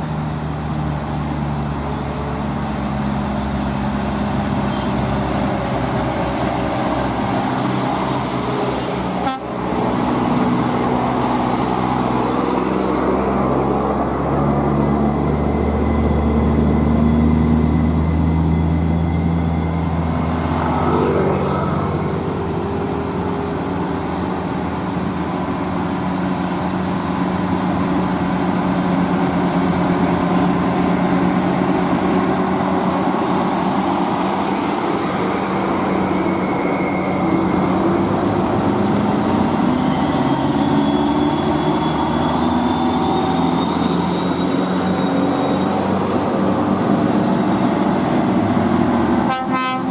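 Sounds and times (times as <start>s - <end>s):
diesel truck engine running: 0.0s - 49.3s.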